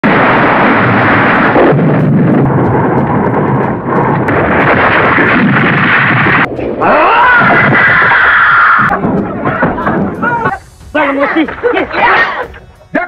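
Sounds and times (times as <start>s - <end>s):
blasts: 0.0s - 10.5s
volcanic rumble: 0.0s - 10.6s.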